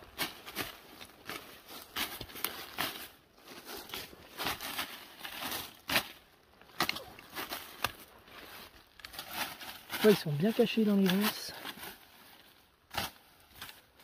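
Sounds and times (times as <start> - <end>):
brushing through undergrowth: 0.0 - 14.0
footsteps crunching through leaves: 0.0 - 14.0.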